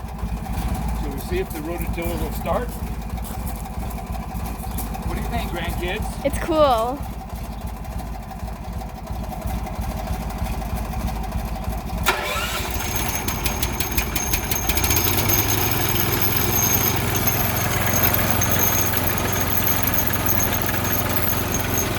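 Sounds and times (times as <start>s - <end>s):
small engine running: 0.0s - 21.9s
tractor engine idling: 0.0s - 21.9s.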